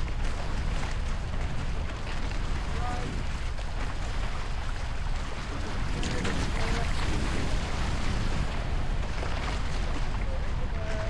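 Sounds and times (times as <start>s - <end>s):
water splashing along hulls: 0.0s - 11.0s
wind noise on microphone: 0.0s - 11.0s.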